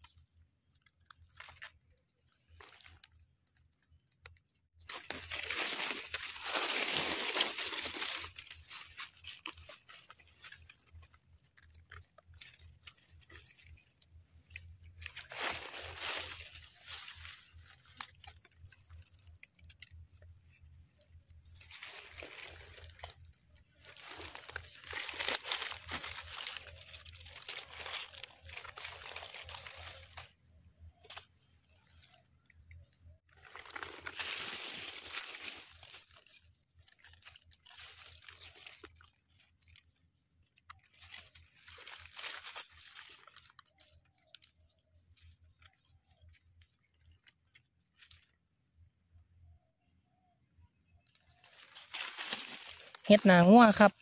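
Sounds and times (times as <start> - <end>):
dry leaves crunching and rustling: 1.2 - 1.9, 2.6 - 3.2, 4.8 - 32.4, 33.3 - 48.4, 51.1 - 54.0.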